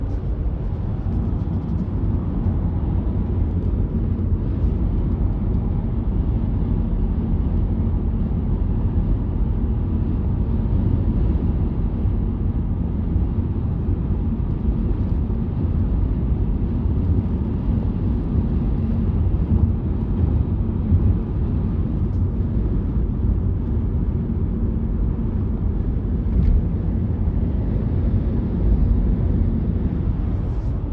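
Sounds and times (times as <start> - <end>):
road and tyre noise: 0.0 - 30.9.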